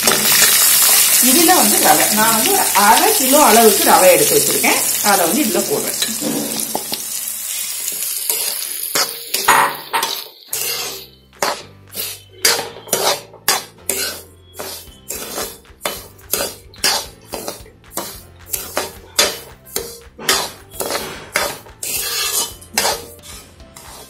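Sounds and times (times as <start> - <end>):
semolina sizzling in hot oil: 0.0 - 24.0
metal spoon scraping a pan: 3.1 - 24.0.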